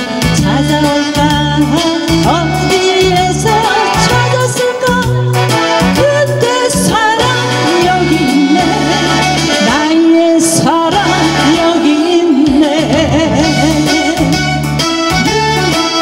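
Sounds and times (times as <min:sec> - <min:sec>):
backing music with bass line: 0:00.0 - 0:16.0
woman singing into microphone: 0:00.0 - 0:16.0.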